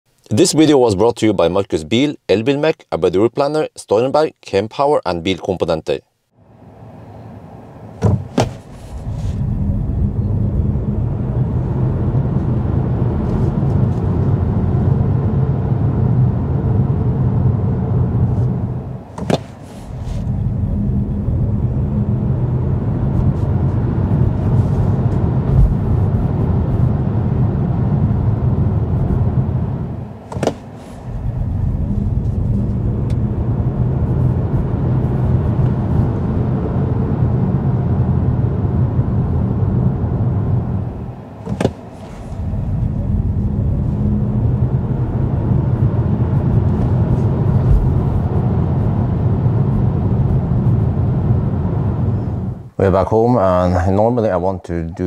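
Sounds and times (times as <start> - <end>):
road and tyre rumble in car: 6.4 - 52.8.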